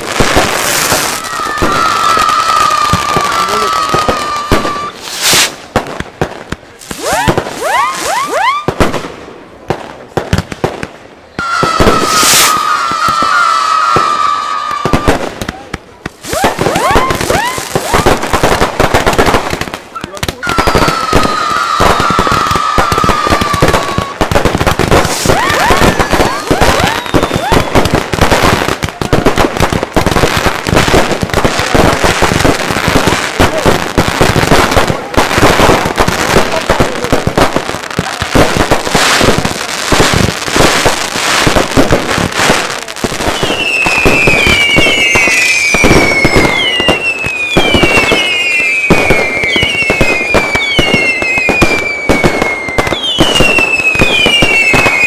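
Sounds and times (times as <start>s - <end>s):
firecrackers banging and crackling: 0.0s - 55.0s
whistling fireworks shrieking: 0.0s - 55.0s.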